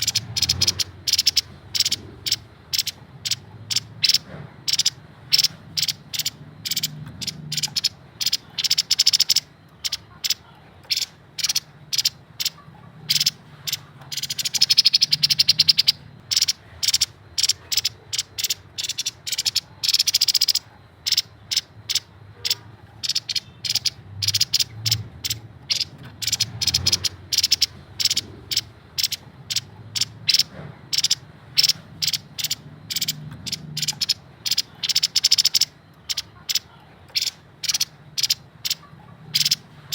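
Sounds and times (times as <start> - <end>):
bird chattering song: 0.0 - 39.7.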